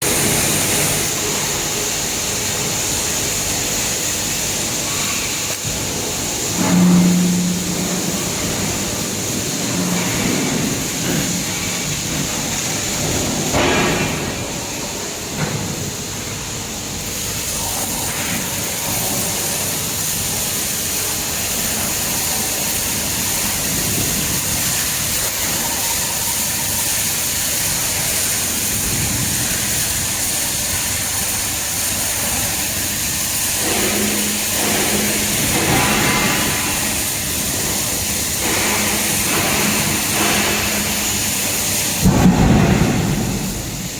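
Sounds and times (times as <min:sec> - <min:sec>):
welding hiss: 0:00.0 - 0:43.9.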